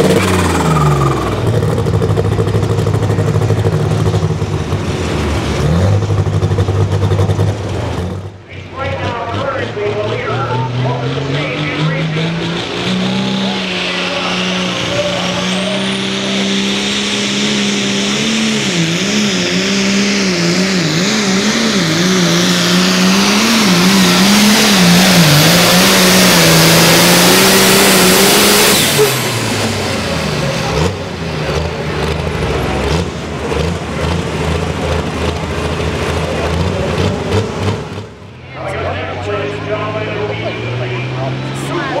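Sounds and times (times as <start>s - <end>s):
tractor diesel engine: 0.0s - 42.0s.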